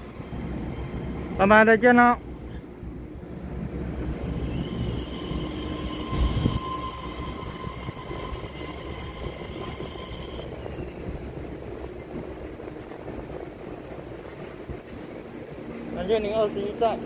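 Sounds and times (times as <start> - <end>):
train passing with steady rumble: 0.0 - 17.0.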